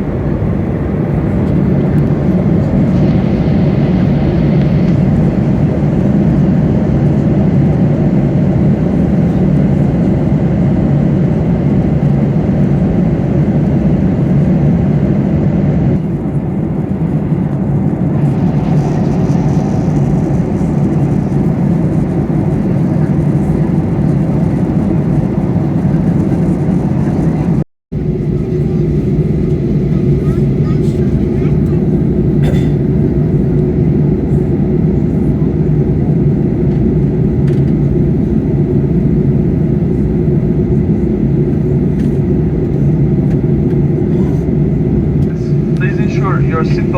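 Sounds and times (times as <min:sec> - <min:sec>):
airflow over fuselage: 0:00.0 - 0:46.9
jet engines droning: 0:00.0 - 0:46.9.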